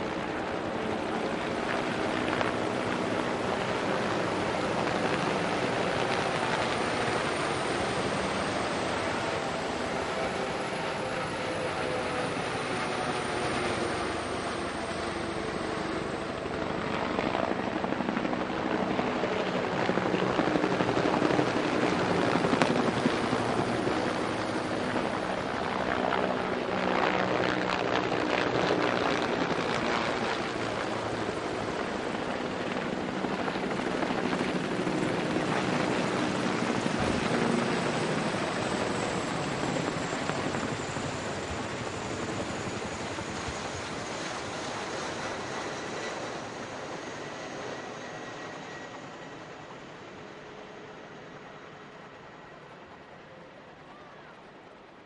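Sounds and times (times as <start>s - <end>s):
helicopters flying overhead: 0.0s - 55.0s.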